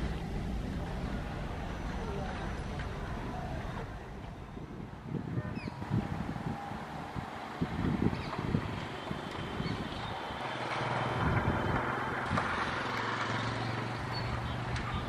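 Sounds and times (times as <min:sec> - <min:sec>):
rail vehicle mechanical hum: 0:00.0 - 0:15.0.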